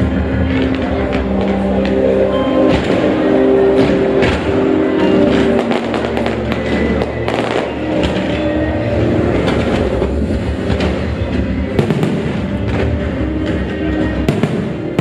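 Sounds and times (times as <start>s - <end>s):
continuous rumble: 0.0s - 15.0s
music: 0.0s - 15.0s
fireworks bursting and crackling: 2.6s - 15.0s.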